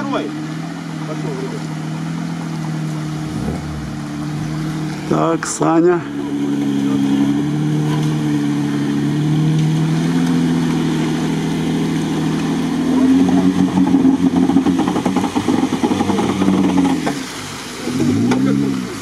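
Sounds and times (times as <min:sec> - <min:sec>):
car engine under load: 0:00.0 - 0:19.0
tyres churning through water: 0:00.0 - 0:19.0.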